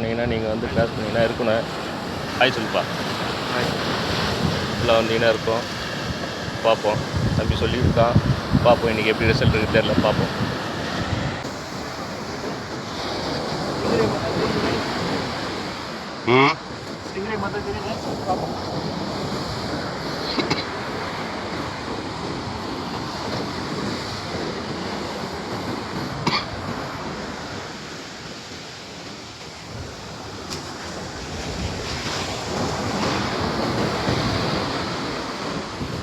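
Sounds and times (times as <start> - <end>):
sea surf washing on beach: 0.0 - 36.0
wind buffeting microphone: 0.0 - 36.0.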